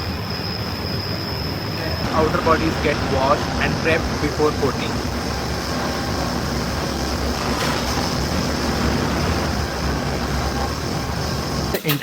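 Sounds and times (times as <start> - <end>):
factory machinery rumble: 0.0 - 12.0.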